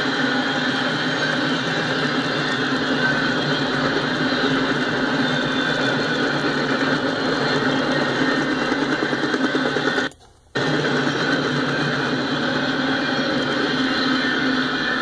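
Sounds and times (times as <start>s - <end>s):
steel wheels rolling on rail: 0.0s - 15.0s.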